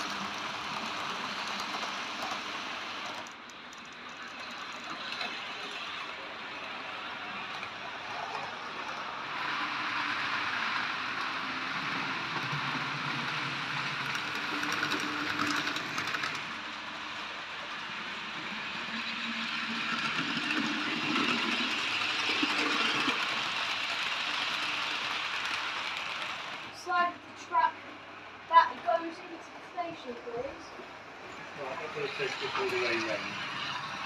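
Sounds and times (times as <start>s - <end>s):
model trains running: 0.0s - 34.0s.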